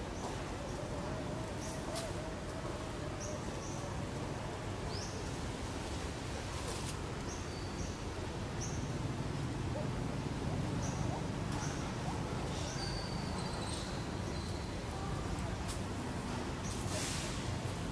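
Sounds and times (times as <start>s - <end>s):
steady forest hiss: 0.0s - 17.9s.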